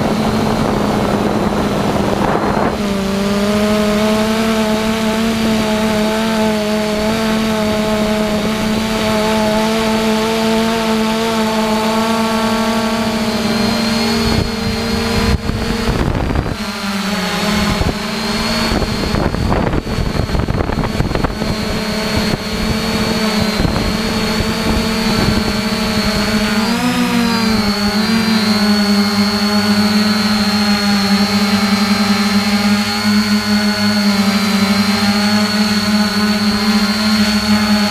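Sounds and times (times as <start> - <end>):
drone motors humming: 0.0 - 37.9
wind rushing over microphone: 0.0 - 37.9.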